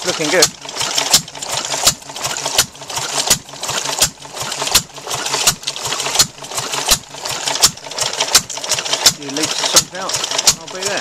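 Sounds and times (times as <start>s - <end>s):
stationary engine driving water pump: 0.0s - 11.0s.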